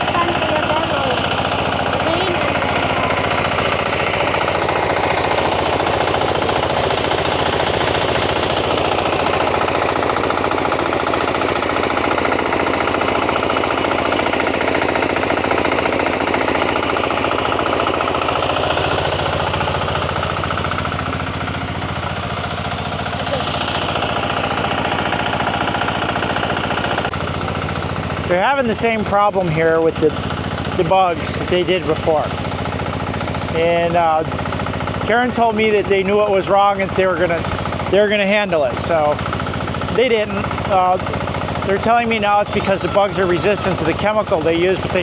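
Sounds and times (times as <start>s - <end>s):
small engine knocking: 0.0s - 45.0s
threshing drum and fan whirring: 0.0s - 45.0s.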